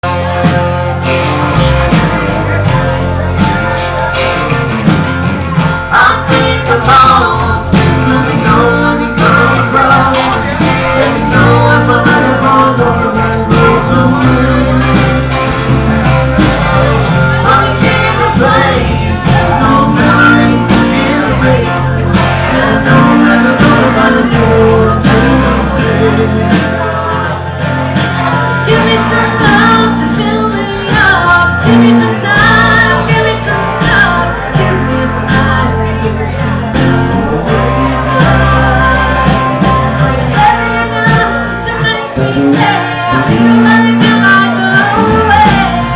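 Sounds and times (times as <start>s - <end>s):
live blues band playing: 0.0s - 45.9s.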